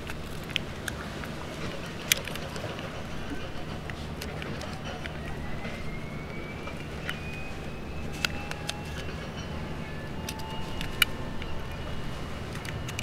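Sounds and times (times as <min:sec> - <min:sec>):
low hum of traffic: 0:00.0 - 0:13.0.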